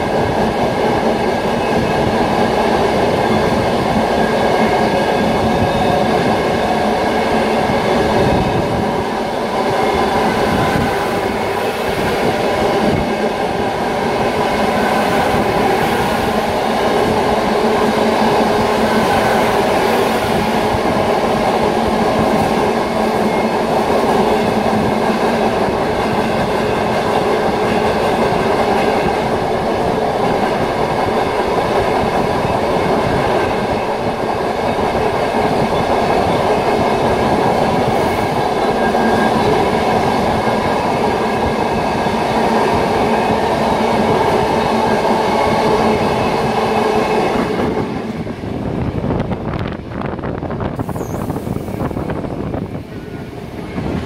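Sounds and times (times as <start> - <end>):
rumble of train wheels on rails: 0.0 - 54.0.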